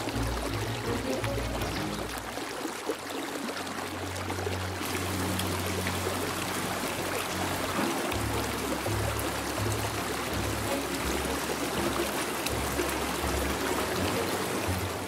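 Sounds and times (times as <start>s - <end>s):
stream splashing over rocks: 0.0s - 15.0s.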